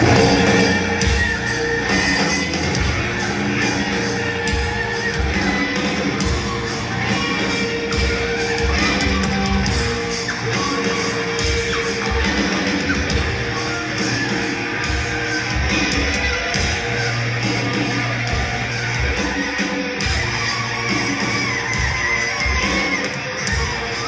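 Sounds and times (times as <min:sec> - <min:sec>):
bass guitar: 0:00.0 - 0:24.0
distorted electric guitars: 0:00.0 - 0:24.0
drums pounding: 0:00.0 - 0:24.0.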